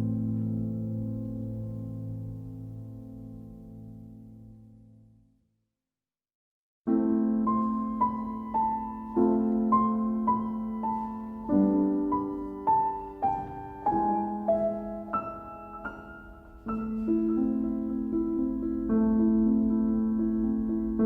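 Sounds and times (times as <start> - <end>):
gentle piano melody: 0.0 - 5.2, 6.9 - 21.0.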